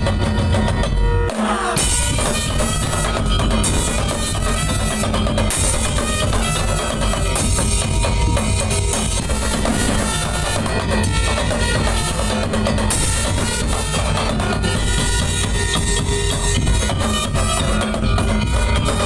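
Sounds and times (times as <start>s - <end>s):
heavy driving drums: 0.0s - 19.0s.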